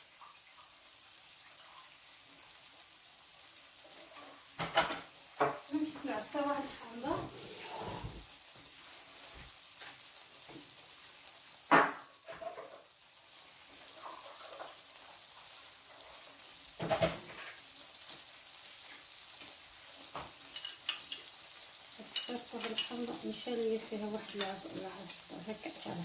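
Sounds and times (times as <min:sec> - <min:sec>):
fish sizzling in frying pan: 0:00.0 - 0:26.0.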